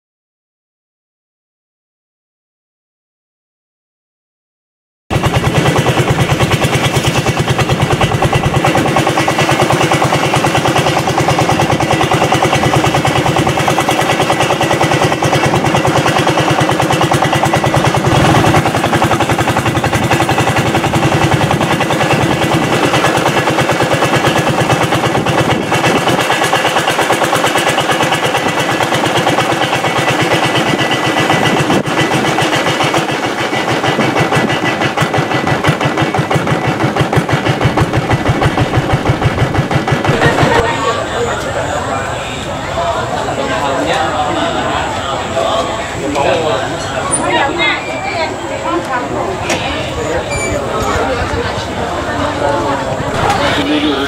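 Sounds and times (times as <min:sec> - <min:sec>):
boat engine running: 0:05.1 - 0:54.0.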